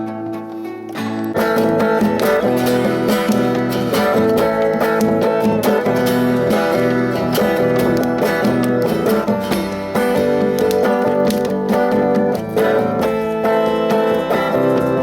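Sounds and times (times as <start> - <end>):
instrumental guitar music: 0.0 - 15.0.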